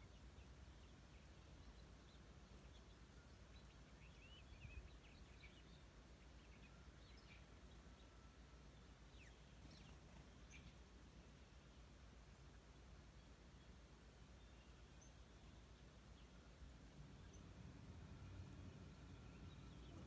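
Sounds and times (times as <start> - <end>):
faint bird chirps: 0.0 - 11.8, 12.4 - 20.0.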